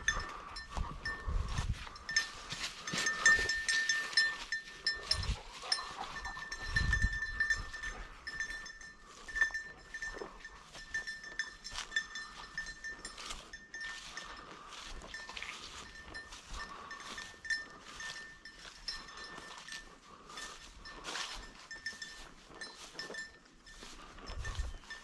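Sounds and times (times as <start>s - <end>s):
dog collar bell jingling: 0.0s - 25.0s.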